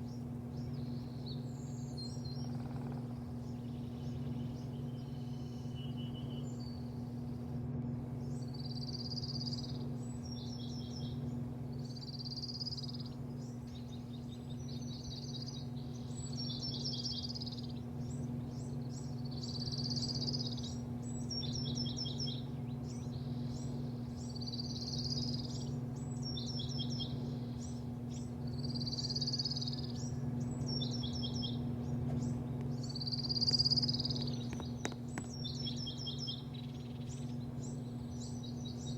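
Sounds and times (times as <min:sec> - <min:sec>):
songbird warbling: 0:00.0 - 0:07.4, 0:08.2 - 0:38.9
steady low hum: 0:00.0 - 0:38.9.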